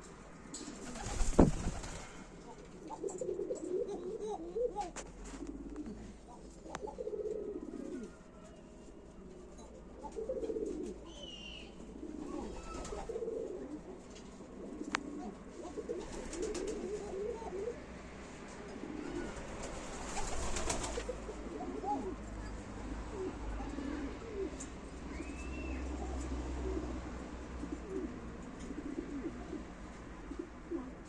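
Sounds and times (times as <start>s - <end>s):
pigeons cooing: 0.0s - 8.3s, 9.6s - 17.9s, 18.6s - 31.0s.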